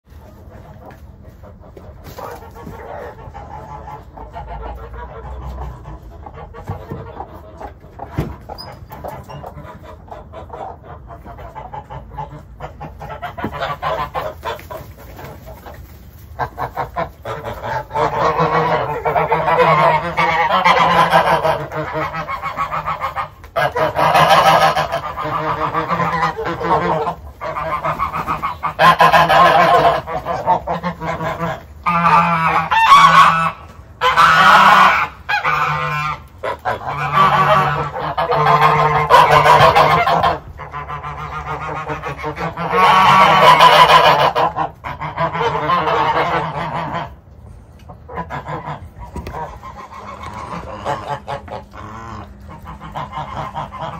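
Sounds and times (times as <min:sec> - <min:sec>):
geese honking: 0:00.1 - 0:53.9.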